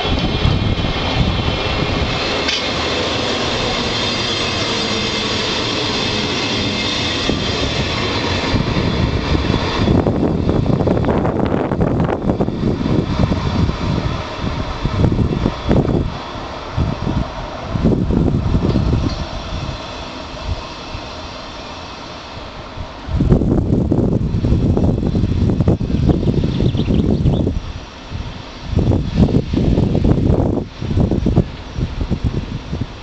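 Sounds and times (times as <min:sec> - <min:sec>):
electric train running past: 0:00.0 - 0:33.0.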